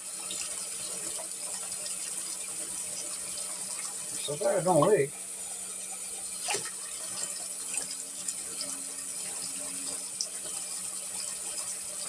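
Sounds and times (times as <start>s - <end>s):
water running: 0.0s - 12.0s.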